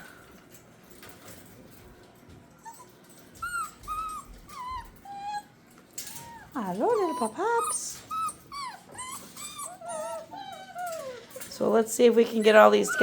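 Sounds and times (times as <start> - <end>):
puppies whining: 2.5 - 13.0.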